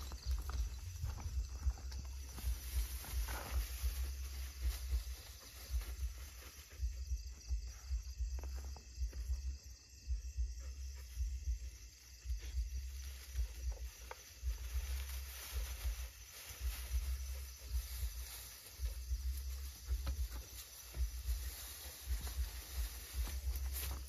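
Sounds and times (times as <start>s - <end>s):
footsteps through dry undergrowth: 0.0s - 9.6s, 11.1s - 24.0s
night insects hissing: 0.0s - 24.0s.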